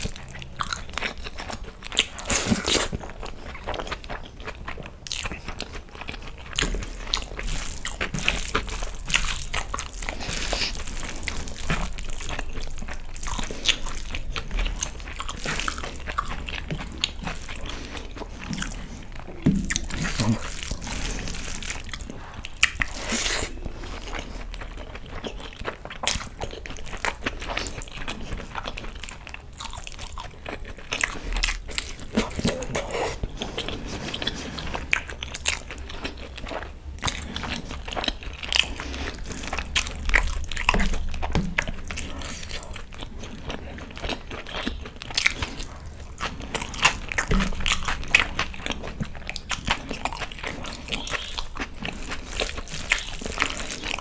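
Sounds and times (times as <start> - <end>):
person chewing wetly: 0.0 - 54.0.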